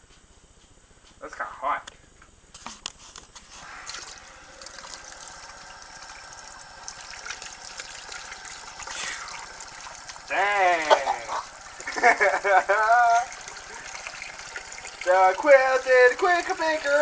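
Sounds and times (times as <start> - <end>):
tap water running: 3.4 - 17.0.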